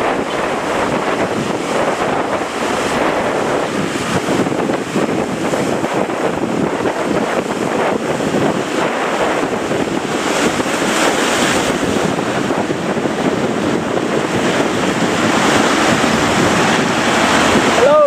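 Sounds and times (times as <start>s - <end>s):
surf breaking: 0.0s - 18.0s
wind buffeting microphone: 0.0s - 18.0s.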